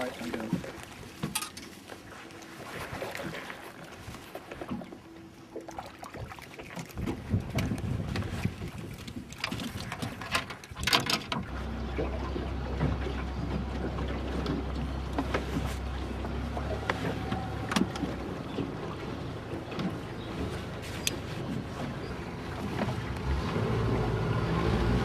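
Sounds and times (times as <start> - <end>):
boat motor humming: 0.0 - 25.0
water noise: 0.0 - 25.0
wind: 0.0 - 25.0.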